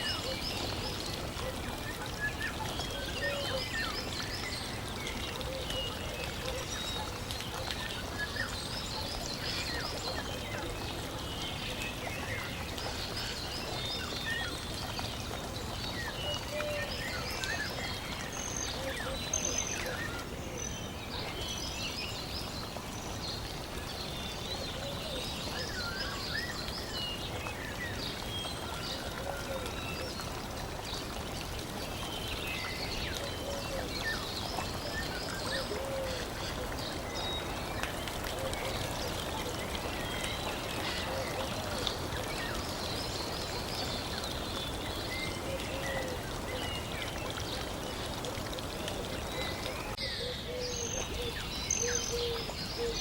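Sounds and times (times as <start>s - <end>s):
flowing water rushing: 0.0s - 53.0s.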